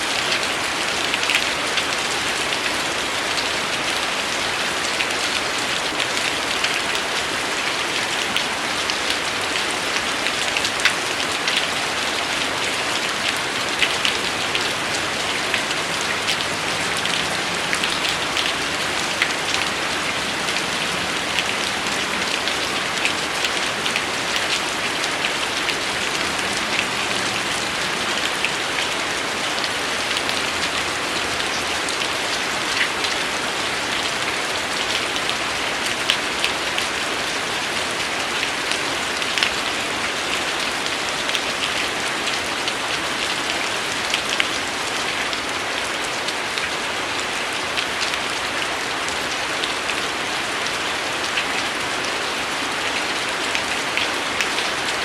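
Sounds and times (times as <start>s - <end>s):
raindrops ticking on a surface: 0.0s - 55.0s
steady rain hissing: 0.0s - 55.0s.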